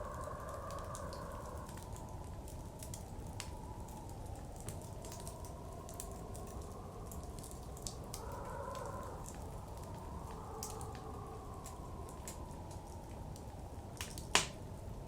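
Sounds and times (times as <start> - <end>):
blizzard wind rushing: 0.0 - 14.0
wood fire crackling and popping: 0.0 - 15.0.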